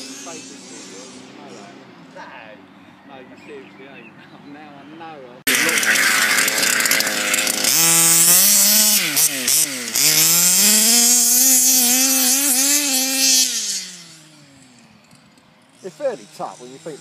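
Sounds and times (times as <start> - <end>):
small two-stroke engine revving: 0.0 - 2.5, 5.5 - 17.0.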